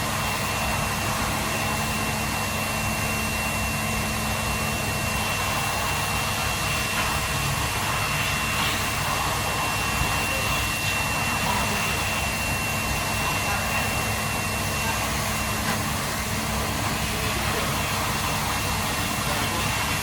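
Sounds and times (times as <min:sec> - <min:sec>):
machine rushing hiss: 0:00.0 - 0:20.0
thin high whine: 0:00.0 - 0:20.0.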